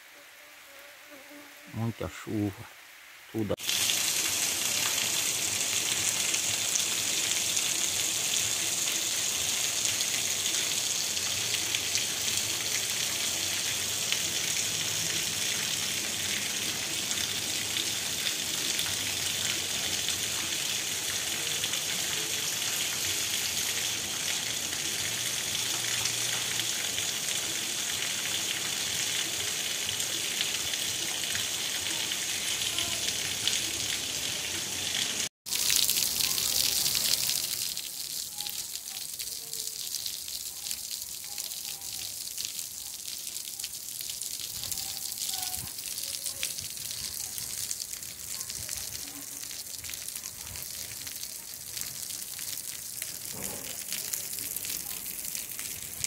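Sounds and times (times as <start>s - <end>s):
rain on cobblestone street: 2.4s - 56.0s.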